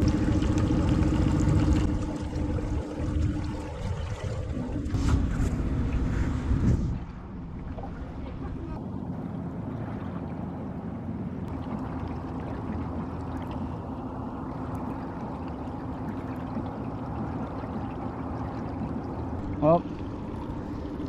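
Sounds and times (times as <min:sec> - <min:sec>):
outboard boat motor running: 0:00.0 - 0:21.0
water splashing against hull: 0:00.0 - 0:21.0.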